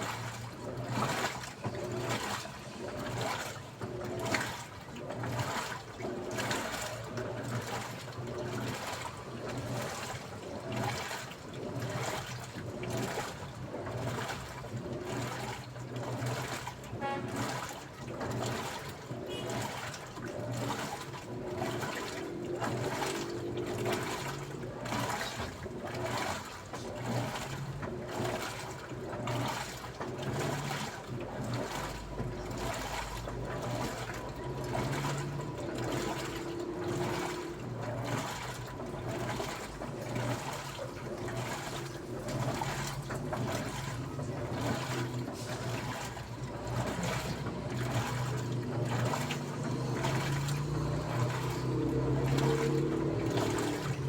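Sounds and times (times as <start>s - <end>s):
low motor hum: 0.0s - 54.0s
water sloshing in washing machine: 0.0s - 54.0s.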